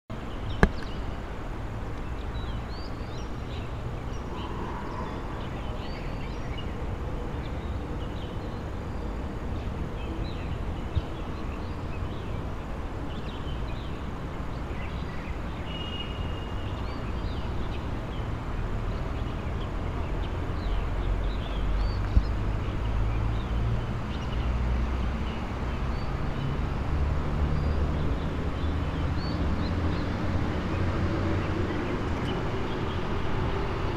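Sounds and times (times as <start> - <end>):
traffic rumble: 0.1 - 33.9.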